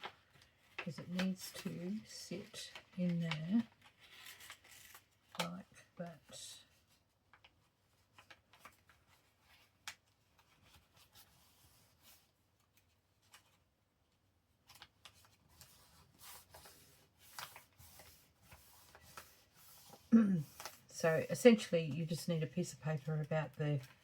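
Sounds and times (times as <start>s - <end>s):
paper rustling and folding: 0.0s - 24.0s.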